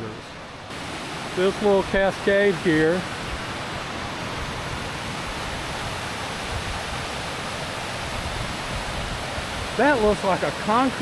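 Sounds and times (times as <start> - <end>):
river cascade rushing over rocks: 0.0 - 11.0.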